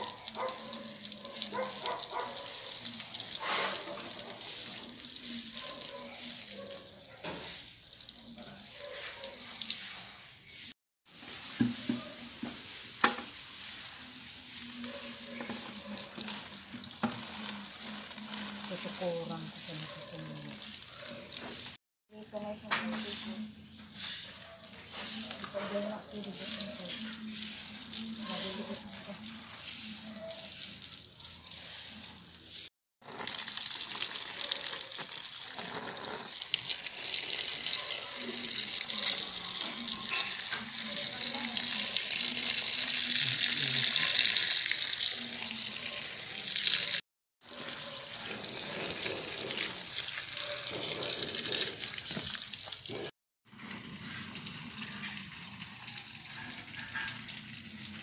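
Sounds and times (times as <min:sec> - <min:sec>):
garden hose spraying water: 0:00.0 - 0:58.0.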